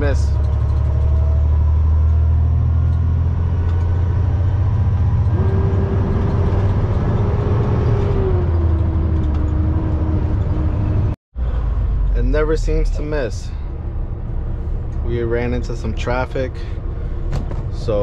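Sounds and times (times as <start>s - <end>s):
diesel truck engine drone: 0.0s - 18.0s.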